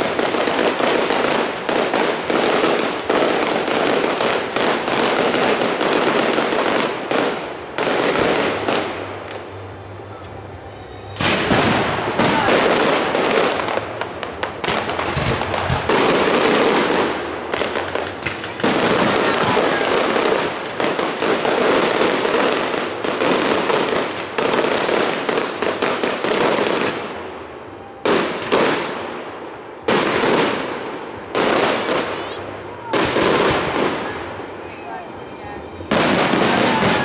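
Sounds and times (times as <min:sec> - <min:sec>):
firework bangs: 0:00.0 - 0:37.0
firework crackling: 0:00.0 - 0:37.0.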